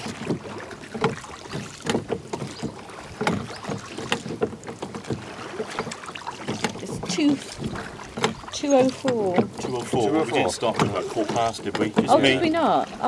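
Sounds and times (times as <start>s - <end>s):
water swishing: 0.0s - 13.0s
wooden oars knocking in rowlocks: 0.0s - 13.0s.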